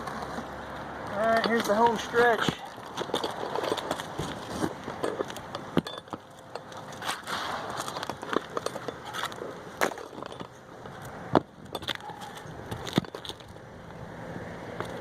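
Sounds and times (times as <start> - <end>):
roofing shingles crunching and scraping: 0.0 - 13.7.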